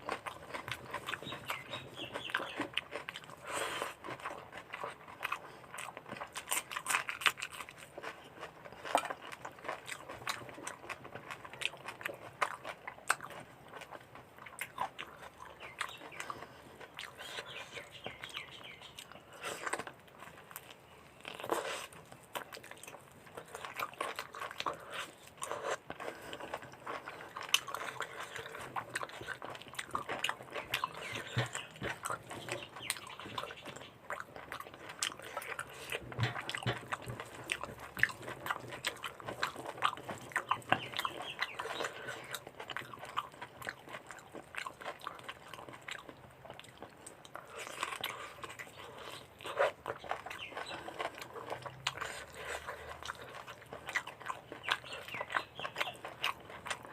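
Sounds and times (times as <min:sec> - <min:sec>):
person chewing food: 0:00.0 - 0:56.9.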